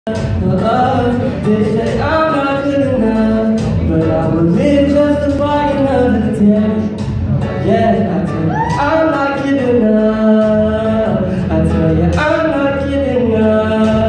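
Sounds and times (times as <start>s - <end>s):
man singing into a microphone: 0.1s - 14.0s.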